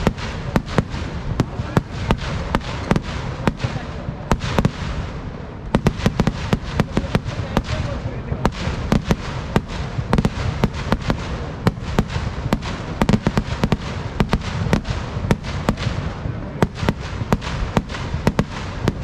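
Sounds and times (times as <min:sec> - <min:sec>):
continuous low rumble: 0:00.0 - 0:19.0
fireworks bangs and crackles: 0:00.0 - 0:19.0.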